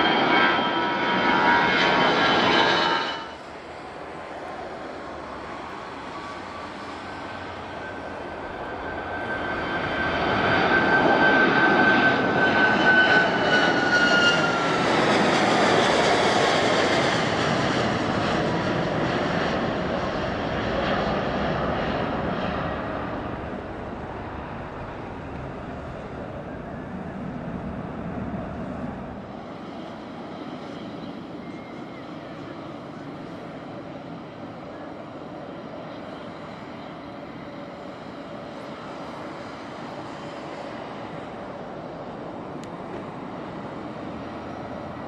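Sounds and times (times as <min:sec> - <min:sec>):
airliner engines at takeoff power: 0:00.0 - 0:45.0
high engine whine: 0:00.0 - 0:45.0.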